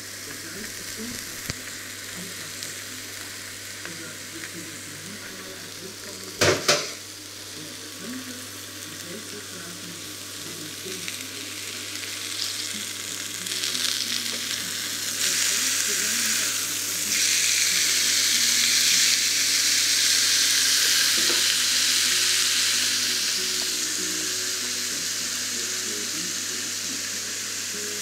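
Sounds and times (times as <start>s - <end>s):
meat sizzling in a grill pan: 0.0s - 28.0s.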